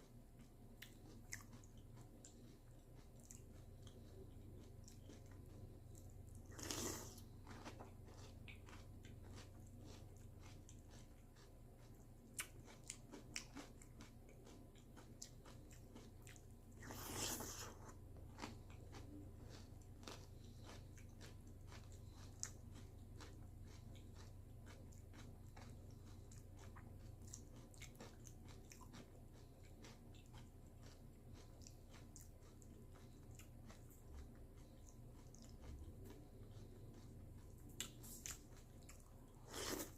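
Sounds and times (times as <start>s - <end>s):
person chewing crunchy cereal: 0.0s - 39.9s.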